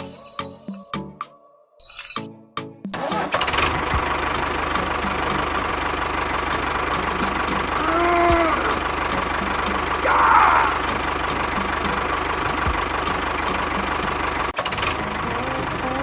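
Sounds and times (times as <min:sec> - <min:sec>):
small engine idling: 0:03.0 - 0:16.0.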